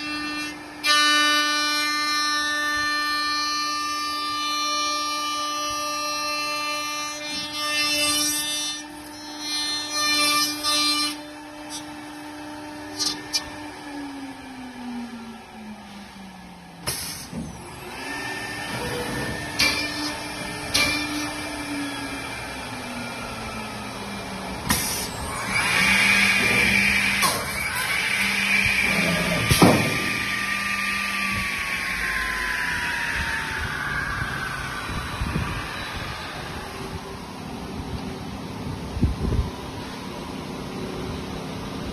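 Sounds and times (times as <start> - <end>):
drilling machine motor whine: 0.0 - 39.8.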